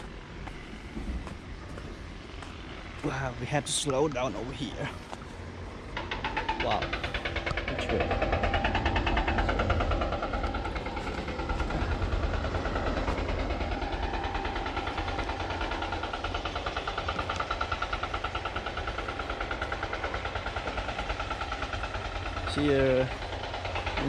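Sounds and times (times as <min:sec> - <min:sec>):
low rumble: 0:00.0 - 0:24.0
pulsing engine-like drone: 0:00.0 - 0:24.0.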